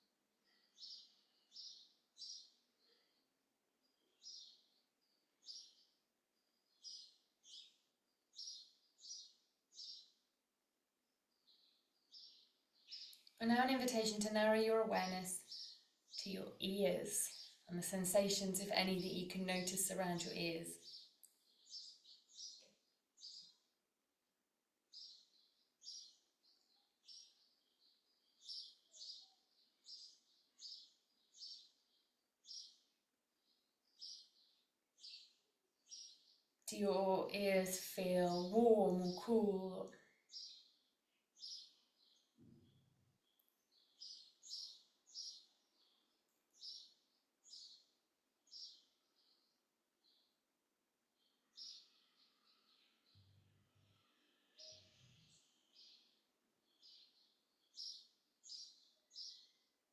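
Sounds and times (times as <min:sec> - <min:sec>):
bird chirping: 0:00.0 - 0:10.4, 0:11.3 - 0:23.8, 0:24.9 - 0:50.4, 0:51.1 - 0:59.8.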